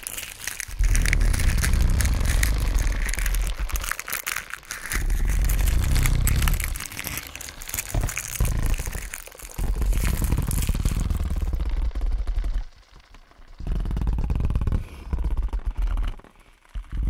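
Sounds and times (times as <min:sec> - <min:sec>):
deep rumble: 0:00.0 - 0:16.2
skin crackling and crinkling: 0:00.0 - 0:17.0.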